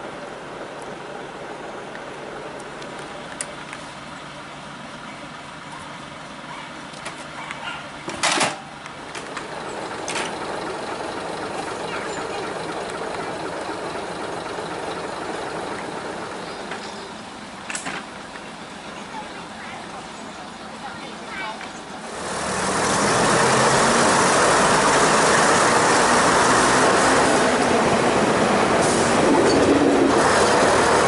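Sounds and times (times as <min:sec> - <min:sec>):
diesel engines idling: 0:00.0 - 0:31.0.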